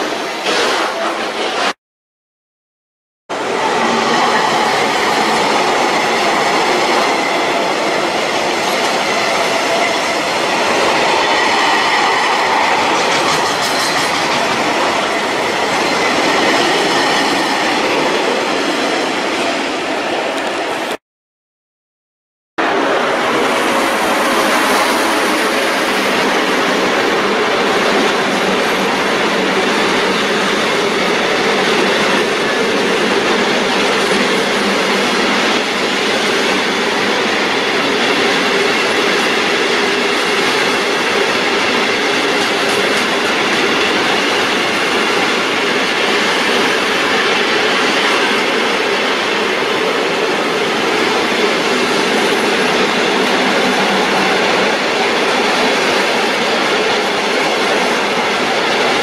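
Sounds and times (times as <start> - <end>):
freight train wheels rumbling on rails: 0.0 - 1.8, 3.3 - 21.0, 22.6 - 59.0.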